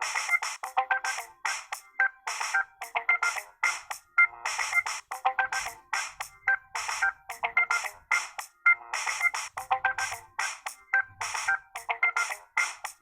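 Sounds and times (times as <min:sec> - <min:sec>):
electronic music with beat: 0:00.0 - 0:13.0.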